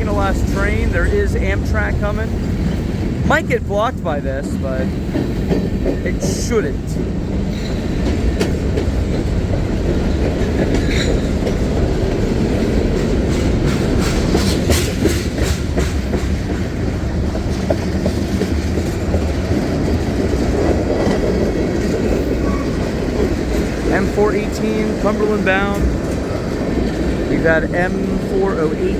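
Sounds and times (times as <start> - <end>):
train wheels rumbling on rail: 0.0 - 28.9
wheels clacking over rail joints: 0.0 - 28.9.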